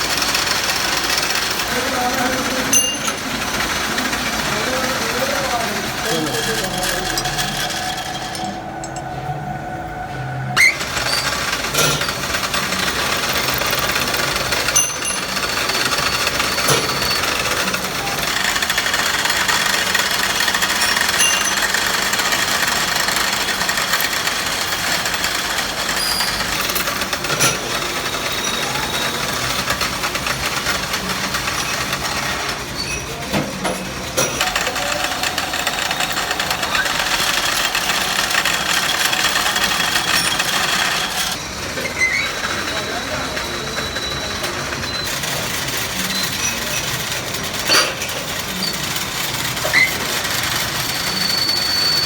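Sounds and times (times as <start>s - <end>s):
workshop machinery running: 0.0s - 52.0s.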